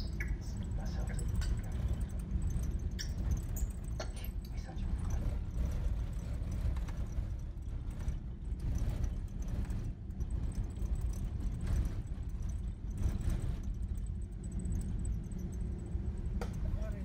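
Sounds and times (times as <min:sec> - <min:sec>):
knocks and rattles: 0:00.0 - 0:17.0
vehicle rumbling on dirt road: 0:00.0 - 0:17.0.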